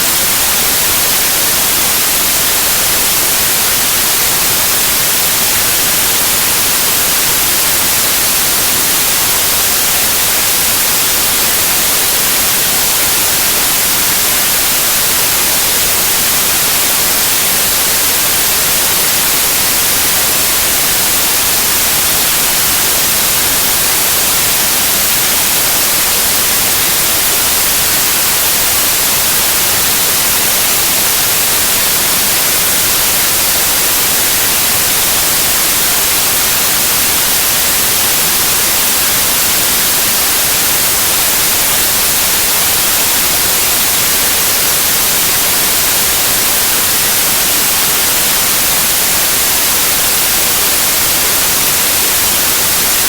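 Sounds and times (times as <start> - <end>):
steady white noise hiss: 0.0 - 53.0.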